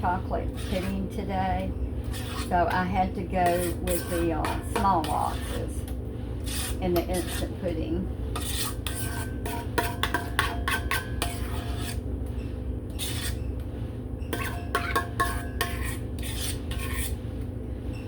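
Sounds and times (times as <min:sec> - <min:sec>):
spoon scraping a bowl: 0:00.0 - 0:12.0, 0:12.9 - 0:13.6, 0:14.2 - 0:17.2.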